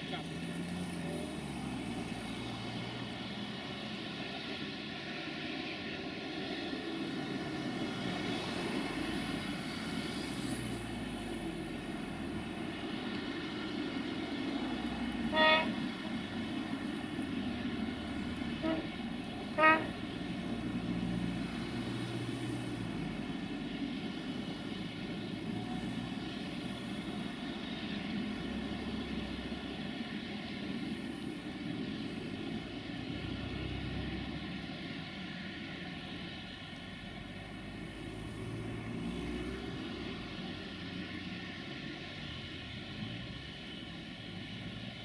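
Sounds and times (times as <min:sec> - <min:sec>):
diesel railway engine droning: 0:00.0 - 0:45.0.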